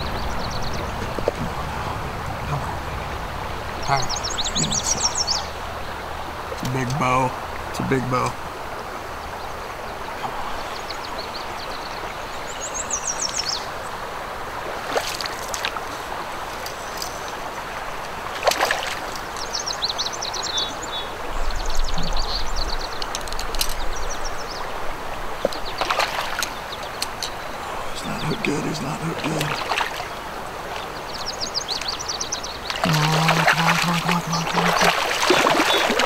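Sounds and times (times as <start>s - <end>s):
small birds chirping: 0.0s - 8.4s, 9.0s - 14.1s, 14.9s - 36.0s
river current rushing: 0.0s - 36.0s.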